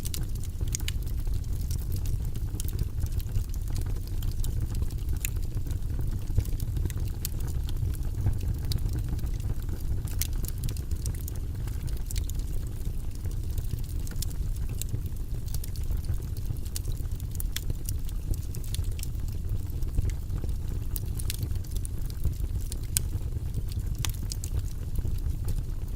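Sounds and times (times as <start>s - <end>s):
fire crackling in fireplace: 0.0s - 25.9s.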